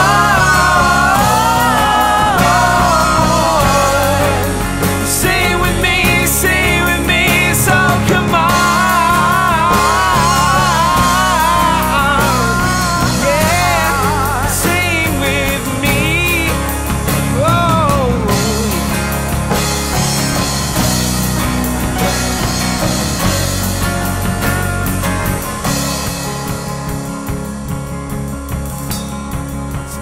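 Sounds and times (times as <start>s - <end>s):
indie rock band: 0.0s - 30.0s
wavering melodic lead line: 0.0s - 30.0s.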